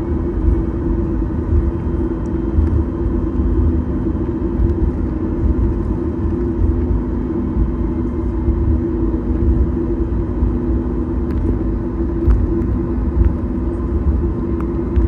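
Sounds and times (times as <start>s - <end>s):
airliner cabin rumble: 0.0s - 15.0s
engine and airframe hum: 0.0s - 15.0s.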